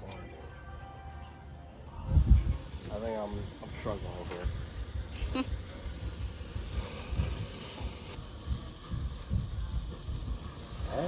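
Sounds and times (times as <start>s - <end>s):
barbecue grill hissing: 2.0s - 11.0s.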